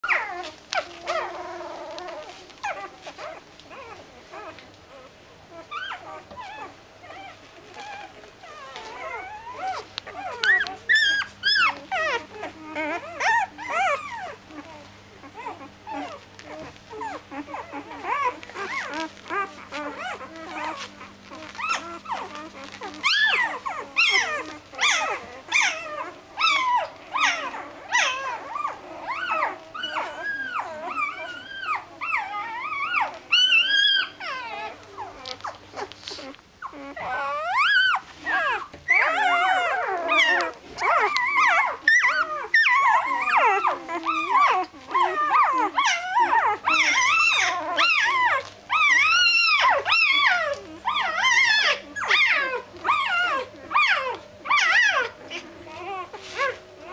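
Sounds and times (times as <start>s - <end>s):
puppies whining and squealing: 0.0s - 56.9s.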